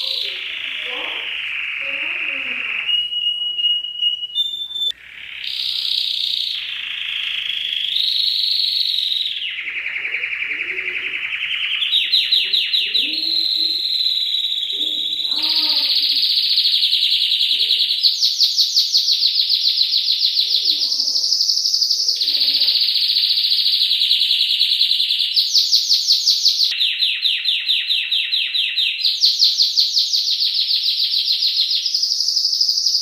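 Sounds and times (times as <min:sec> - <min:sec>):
canary singing trills: 0:00.0 - 0:33.0.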